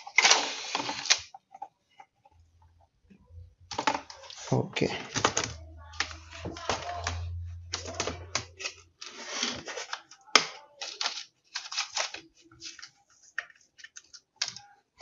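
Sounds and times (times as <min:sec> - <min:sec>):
plastic clicks and scrapes: 0:00.0 - 0:02.7, 0:05.0 - 0:14.7.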